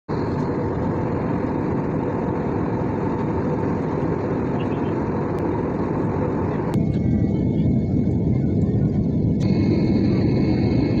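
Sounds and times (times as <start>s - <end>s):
jet airliner cabin noise: 0.1s - 11.0s.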